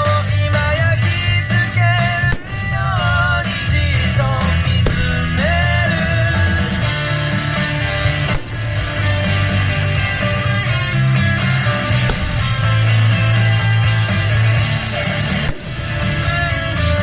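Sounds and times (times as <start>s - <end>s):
pop-rock song with singing: 0.0s - 17.0s.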